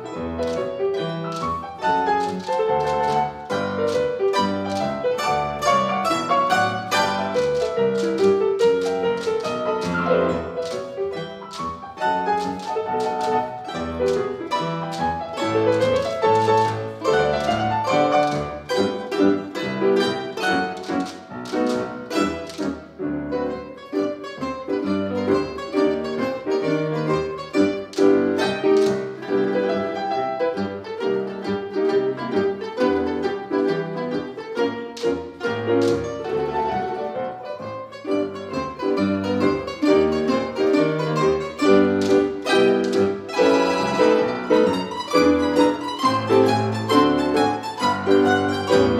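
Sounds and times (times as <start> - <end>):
piano accompaniment: 0.0 - 48.9
plucked string ensemble: 0.0 - 48.9.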